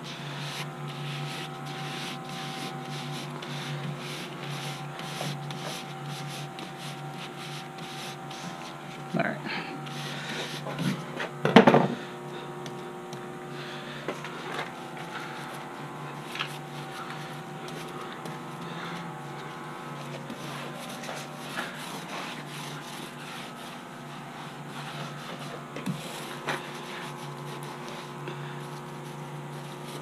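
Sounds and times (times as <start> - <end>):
rubbing and scraping canvas: 0.0 - 9.1, 9.8 - 11.1, 14.6 - 30.0.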